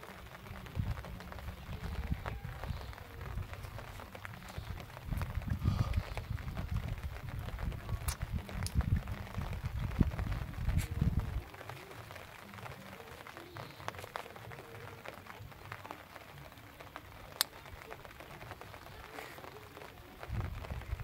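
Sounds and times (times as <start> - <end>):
faint ticks and patter: 0.0 - 21.0.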